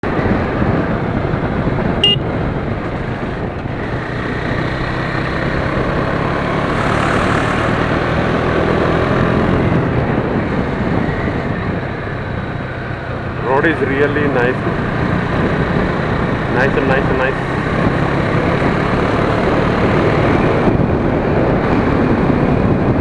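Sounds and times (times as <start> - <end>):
wind rush on microphone: 0.0 - 23.0
motorcycle engine running: 0.2 - 21.7.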